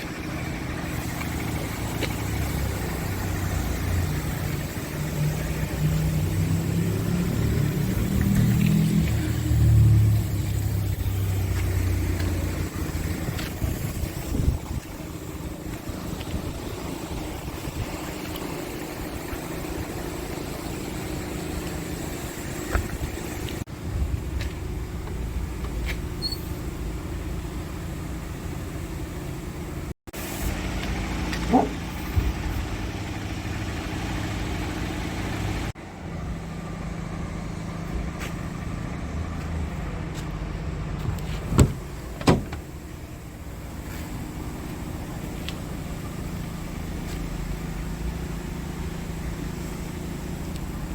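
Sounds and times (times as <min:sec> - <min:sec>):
diesel truck engine idling: 0:00.0 - 0:50.9.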